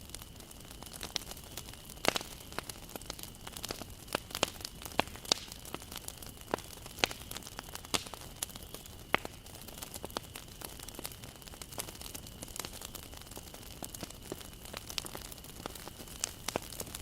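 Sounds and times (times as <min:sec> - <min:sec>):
soft steady hiss: 0:00.0 - 0:17.0
wood fire crackling and popping: 0:00.0 - 0:17.0.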